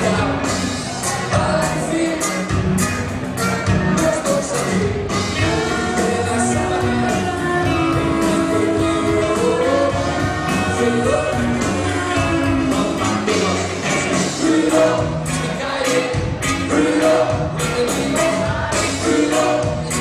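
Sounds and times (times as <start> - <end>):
full band playing: 0.0 - 20.0.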